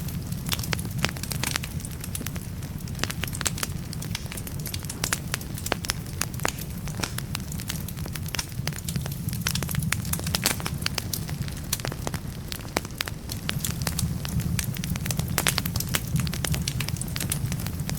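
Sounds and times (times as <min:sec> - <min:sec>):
fire crackling and popping: 0:00.0 - 0:17.9
low rumble of flames: 0:00.0 - 0:17.9.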